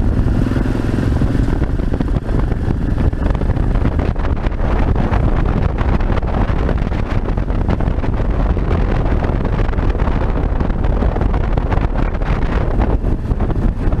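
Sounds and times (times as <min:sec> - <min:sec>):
motorcycle engine cruising: 0:00.0 - 0:14.0
wind rushing over microphone: 0:00.0 - 0:14.0.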